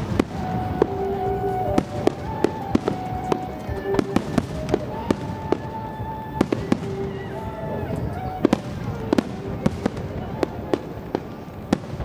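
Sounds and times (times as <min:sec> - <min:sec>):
fireworks bursting with bangs: 0:00.0 - 0:12.0
music with long held notes: 0:00.0 - 0:12.0.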